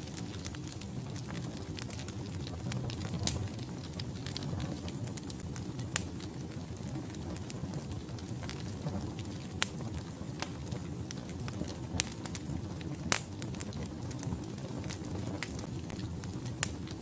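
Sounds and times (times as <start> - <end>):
fire rushing: 0.0 - 17.0
logs crackling and popping: 0.0 - 17.0.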